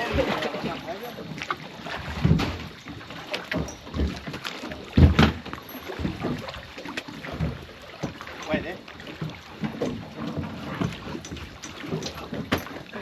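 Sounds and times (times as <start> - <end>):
thumps against aluminium boat: 0.0 - 13.0.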